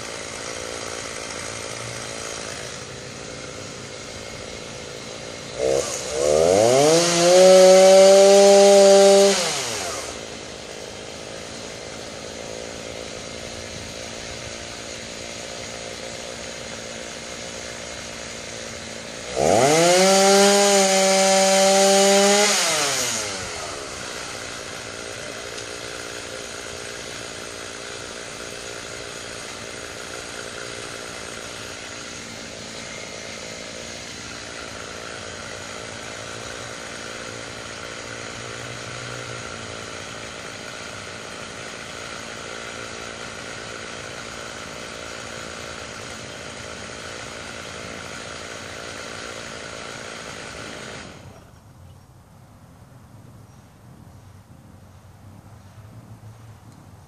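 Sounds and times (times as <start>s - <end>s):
chainsaw running: 0.0s - 53.6s.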